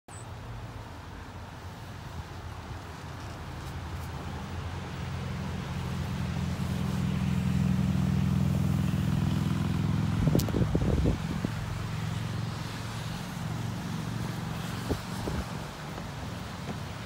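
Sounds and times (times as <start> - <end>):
vehicle engine humming: 0.1 - 17.0.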